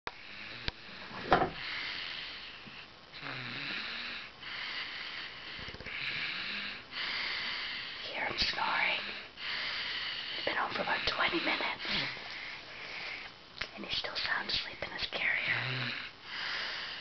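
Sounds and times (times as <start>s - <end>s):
person snoring: 0.2s - 13.3s, 15.4s - 17.0s.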